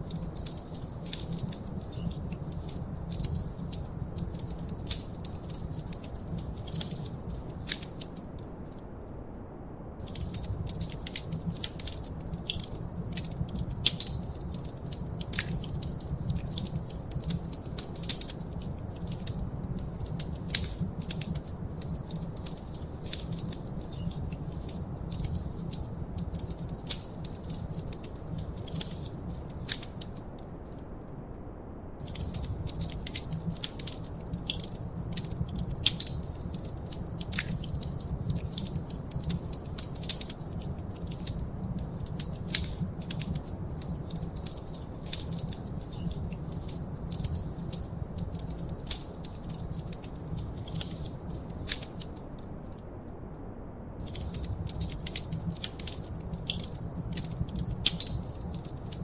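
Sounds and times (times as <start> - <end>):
wood fire crackling and popping: 0.0 - 8.8, 10.0 - 30.8, 32.0 - 52.8, 54.0 - 59.0
low rumble of flames: 0.0 - 59.0.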